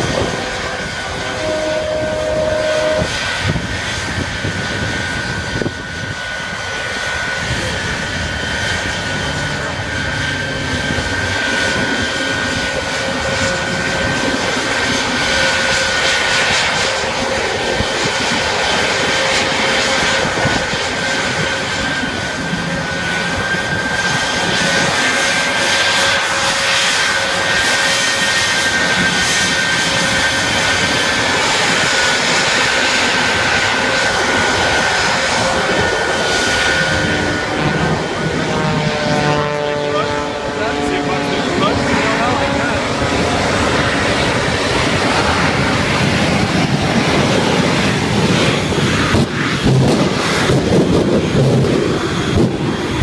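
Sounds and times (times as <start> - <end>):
jet engine whine and rush: 0.0 - 53.0.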